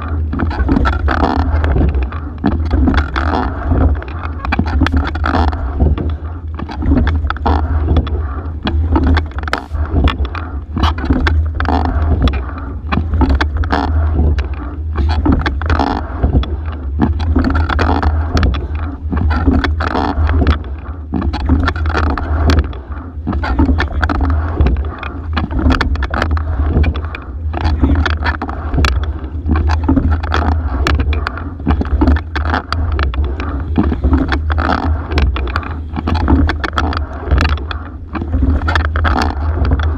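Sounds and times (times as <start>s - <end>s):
low rumble: 0.0s - 39.9s
water rushing along a hull: 0.0s - 39.9s
oars and sliding seat knocking: 0.3s - 39.9s.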